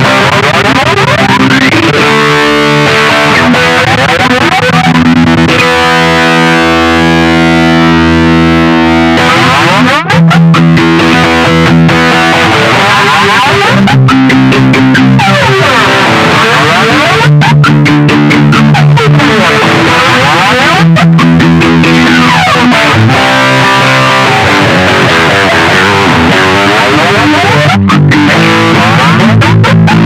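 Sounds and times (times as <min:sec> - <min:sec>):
distorted electric guitar strokes: 0:00.0 - 0:30.0
guitar chord ringing: 0:00.0 - 0:30.0.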